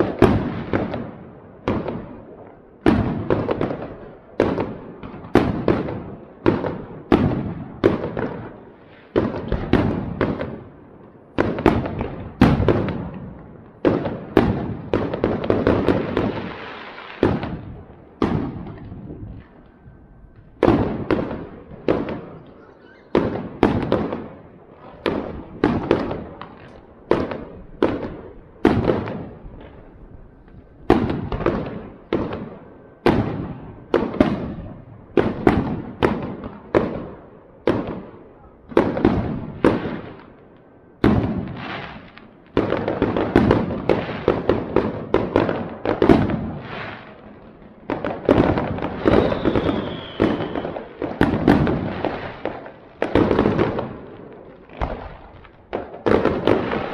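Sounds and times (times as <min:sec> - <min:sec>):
fireworks bangs with echo: 0:00.0 - 0:56.9
fireworks crackle: 0:00.0 - 0:56.9.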